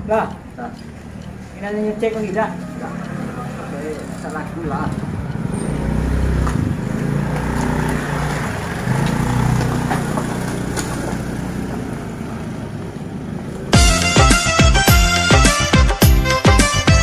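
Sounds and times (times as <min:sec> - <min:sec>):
scooter engine revving: 0:00.2 - 0:14.6.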